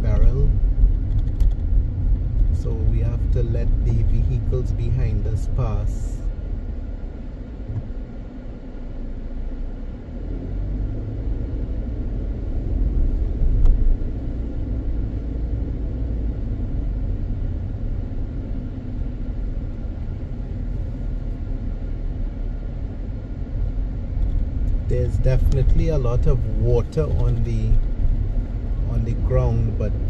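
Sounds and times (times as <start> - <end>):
car driving slowly: 0.0 - 30.0.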